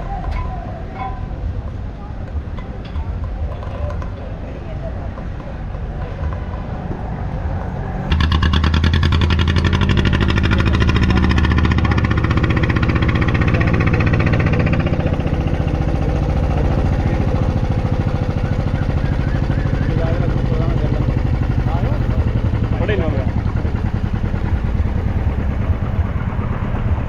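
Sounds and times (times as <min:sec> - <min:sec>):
small engine running: 0:05.2 - 0:27.0.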